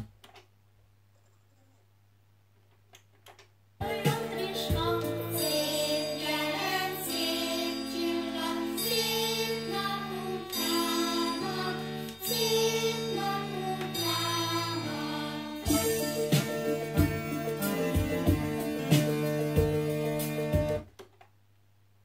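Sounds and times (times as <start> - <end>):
vinyl record music with held chords: 3.8 - 22.0.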